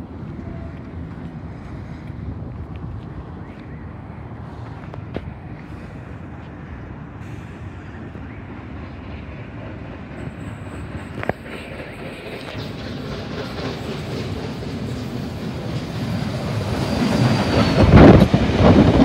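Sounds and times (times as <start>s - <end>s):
steam locomotive rumbling on rails: 0.0s - 19.0s.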